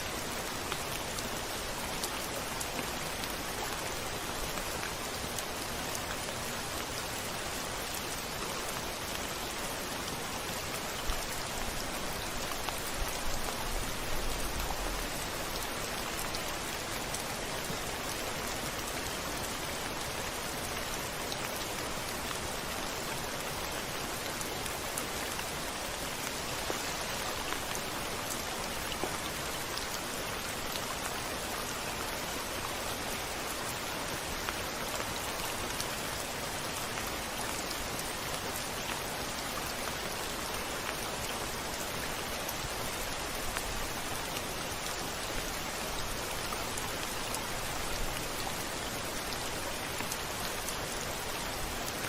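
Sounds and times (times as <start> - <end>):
rain on a window pane: 0.0 - 52.0.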